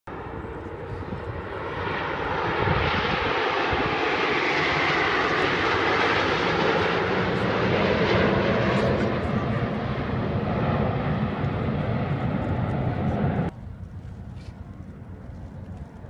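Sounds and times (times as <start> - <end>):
jets flying past: 0.1 - 13.5.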